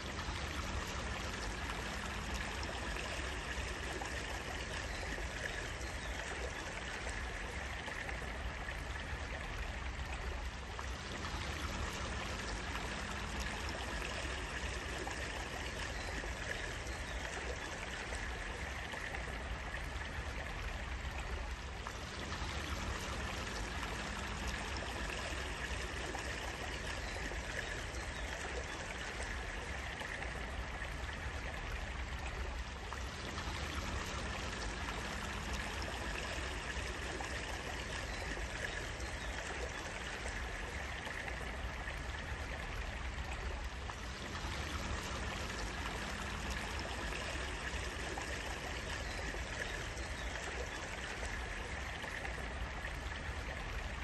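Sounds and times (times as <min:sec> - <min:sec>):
water running in a stream: 0:00.0 - 0:54.0.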